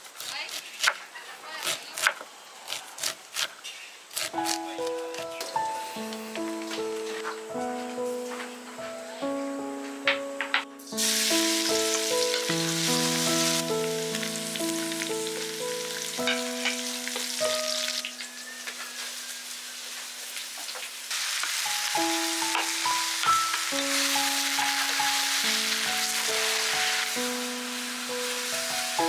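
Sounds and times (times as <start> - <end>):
garlic and onion sizzling in oil: 0.0 - 7.4, 10.8 - 29.0
gentle background music: 4.2 - 20.6, 21.4 - 29.0.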